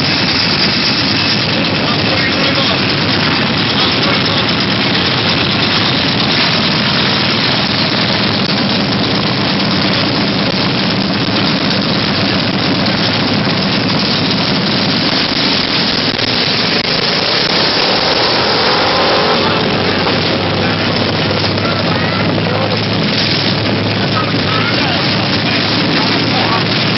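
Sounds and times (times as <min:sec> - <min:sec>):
mini bike engines droning: 0:00.0 - 0:26.9.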